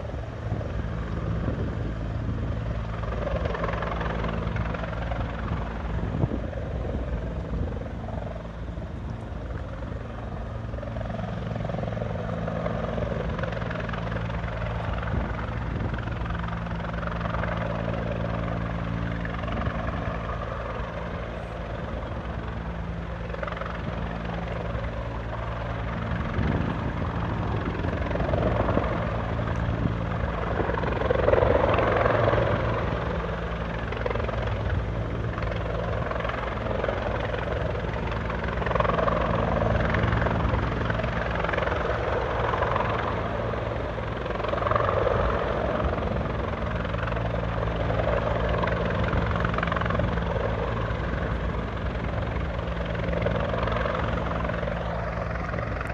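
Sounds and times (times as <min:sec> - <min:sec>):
helicopter rotor chopping: 0:00.0 - 0:55.9.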